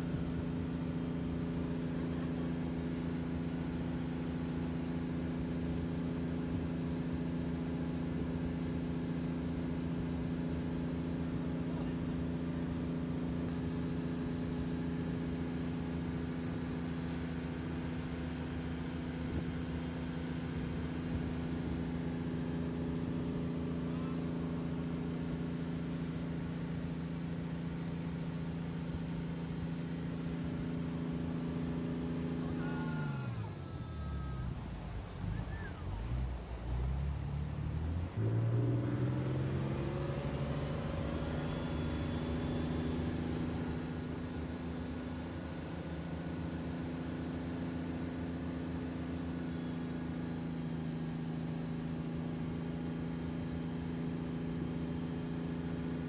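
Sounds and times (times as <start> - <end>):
boat engine running steadily: 0.0 - 56.0.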